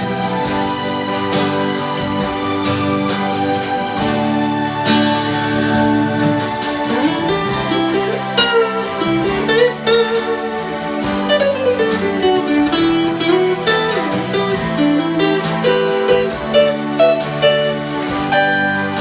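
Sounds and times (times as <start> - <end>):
gliding lead melody: 0.0 - 19.0
guitar accompaniment: 0.0 - 19.0.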